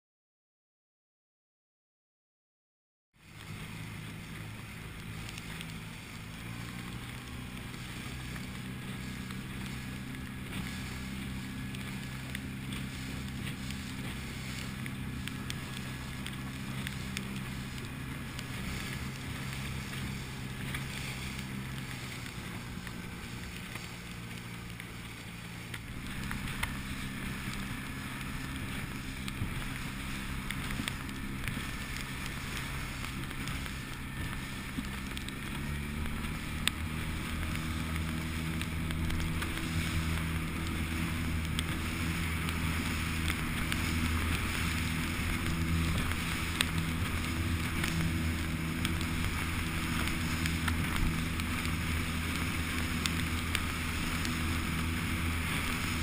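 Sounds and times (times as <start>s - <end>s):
outboard motor running: 3.2s - 56.0s
wind and water rushing: 3.2s - 56.0s.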